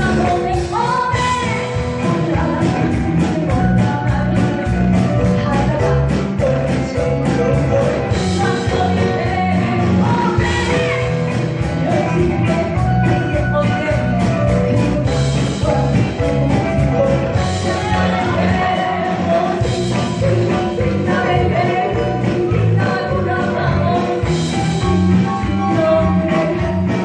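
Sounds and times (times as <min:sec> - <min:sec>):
live band playing: 0:00.0 - 0:27.0
person singing: 0:00.0 - 0:27.0.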